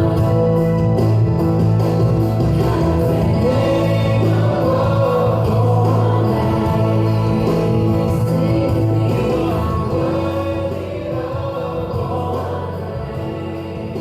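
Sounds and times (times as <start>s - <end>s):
choir singing a hymn over loudspeakers: 0.0s - 1.3s, 2.0s - 14.0s.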